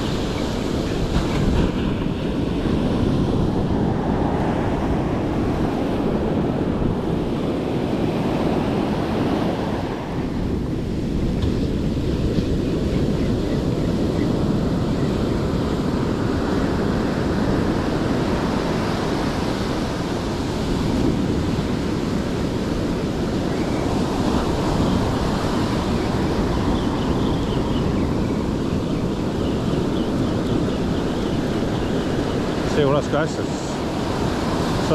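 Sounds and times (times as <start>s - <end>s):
ocean surf on beach: 0.0s - 34.9s
wind on microphone: 0.0s - 34.9s.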